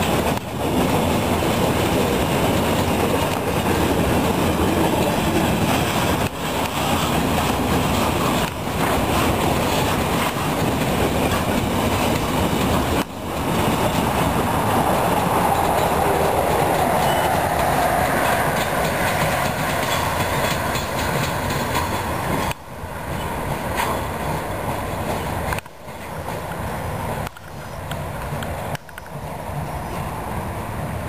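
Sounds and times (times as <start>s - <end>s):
wagon wheels on rails: 0.0s - 26.7s
freight train rolling past: 0.0s - 31.0s.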